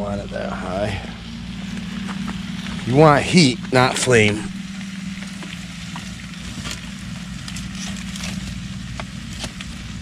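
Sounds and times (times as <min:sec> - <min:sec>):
fire crackling and popping: 0:00.0 - 0:10.0
steady low hum: 0:00.0 - 0:10.0.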